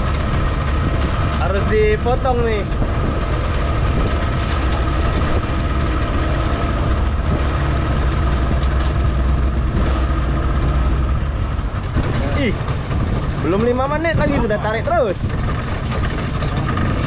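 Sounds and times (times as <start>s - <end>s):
outboard motor droning: 0.0s - 17.0s.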